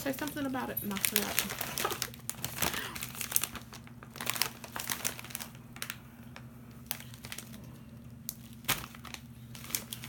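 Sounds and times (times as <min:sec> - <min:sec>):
snack bag crinkling: 0:00.0 - 0:10.0.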